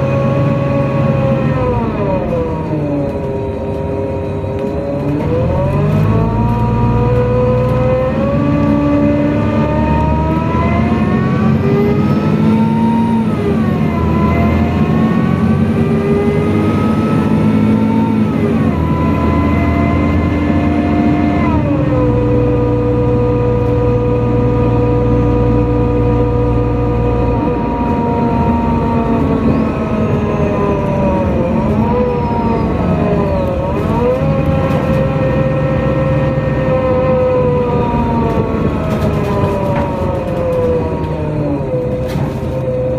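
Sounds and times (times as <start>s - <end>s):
bus engine whine: 0.0s - 42.9s.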